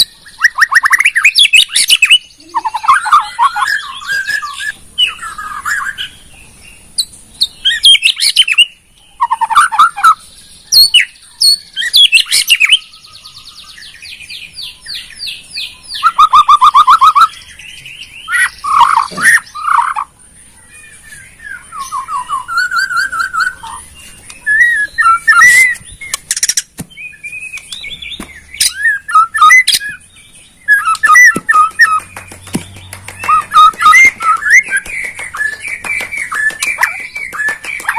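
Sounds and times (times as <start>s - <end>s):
songbird singing varied phrases: 0.0s - 37.9s.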